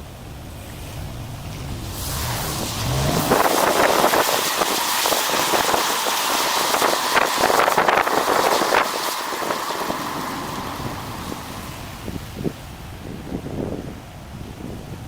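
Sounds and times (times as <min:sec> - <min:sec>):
tyre and road hiss: 0:00.6 - 0:12.8.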